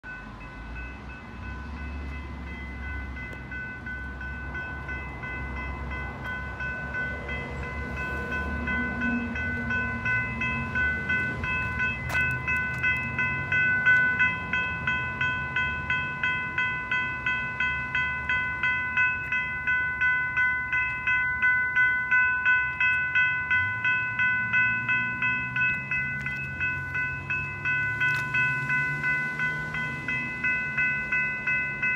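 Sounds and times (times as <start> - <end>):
railroad crossing bell ringing: 0.0 - 31.9.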